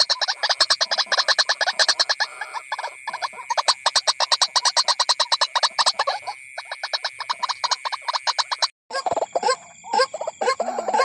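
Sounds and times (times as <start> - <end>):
animal calling in rapid pulses: 0.0 - 11.0.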